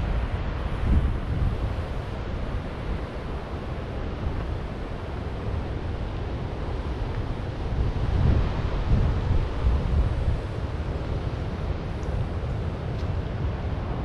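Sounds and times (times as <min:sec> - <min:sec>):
ocean surf rushing: 0:00.0 - 0:14.0
wind gusting on microphone: 0:00.0 - 0:14.0.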